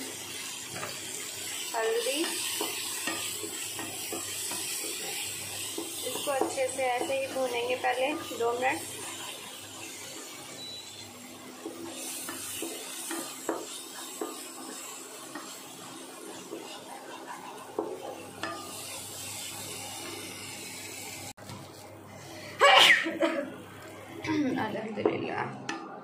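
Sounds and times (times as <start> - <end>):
spoon stirring and scraping in pan: 0.0 - 21.8
soft sizzle: 0.0 - 26.0.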